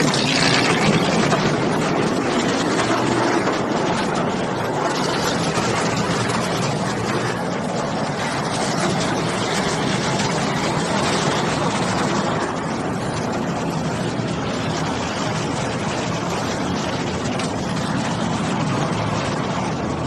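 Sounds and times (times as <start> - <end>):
wood chipper machinery running: 0.0 - 20.0.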